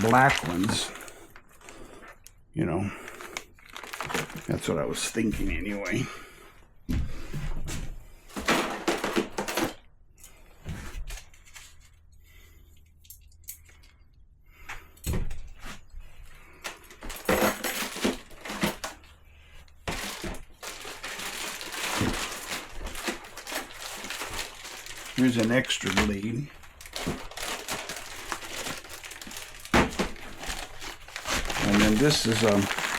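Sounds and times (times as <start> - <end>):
plastic parts and packaging rustling: 0.0 - 6.0, 6.6 - 14.3, 14.9 - 32.9.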